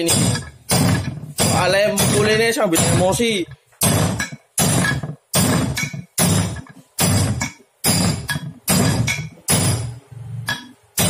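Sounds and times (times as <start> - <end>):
hammer knocking on metal: 0.0 - 10.7.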